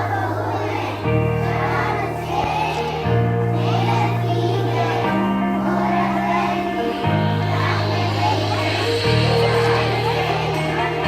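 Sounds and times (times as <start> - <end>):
backing music: 0.0 - 11.0
children singing: 0.0 - 11.0.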